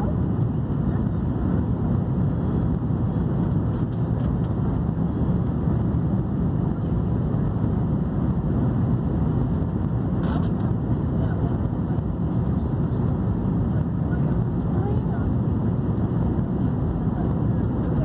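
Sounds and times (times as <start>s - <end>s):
airliner cabin engine roar: 0.0s - 18.0s.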